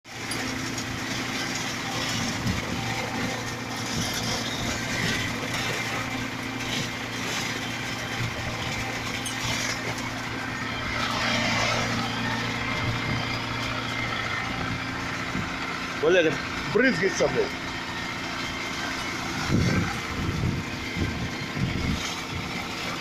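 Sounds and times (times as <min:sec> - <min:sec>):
concrete pump engine drone: 0:00.0 - 0:23.0.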